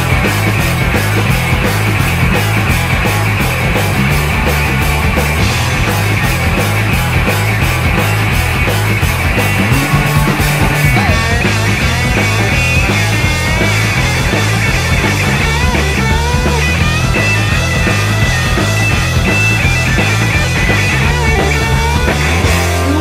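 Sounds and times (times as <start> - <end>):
bass line: 0.0 - 23.0
fast drum beat: 0.0 - 23.0
rock music: 0.0 - 23.0.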